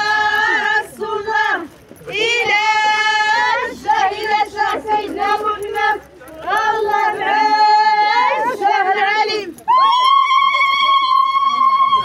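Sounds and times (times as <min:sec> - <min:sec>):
women singing together: 0:00.0 - 0:10.0.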